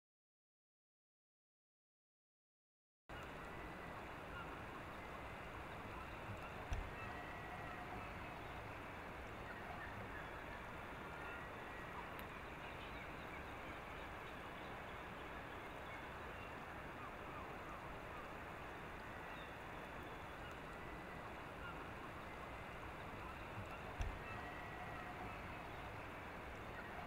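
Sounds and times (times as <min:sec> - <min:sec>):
steady background hiss: 0:03.1 - 0:27.0.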